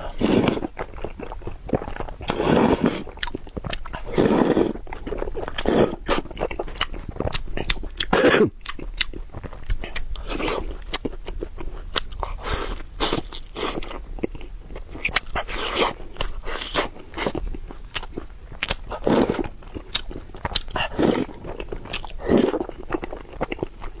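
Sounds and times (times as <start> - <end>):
crunchy bites and chewing: 0.0 - 24.0.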